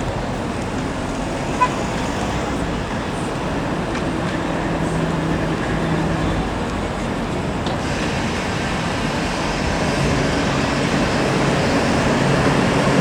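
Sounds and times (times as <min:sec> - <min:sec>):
passing vehicle hum: 0:00.0 - 0:13.0
street traffic noise: 0:00.0 - 0:13.0.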